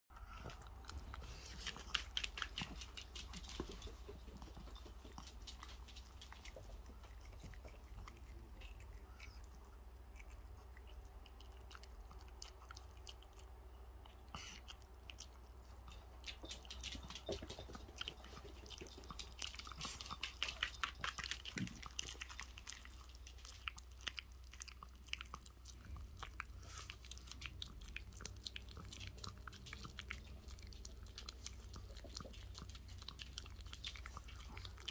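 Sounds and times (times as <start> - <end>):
puppy crunching bites: 0.2 - 34.9.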